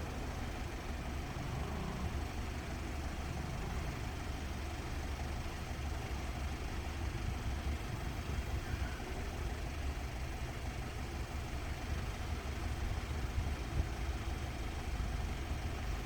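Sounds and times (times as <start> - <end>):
idling motor vehicles rumble: 0.0 - 16.0.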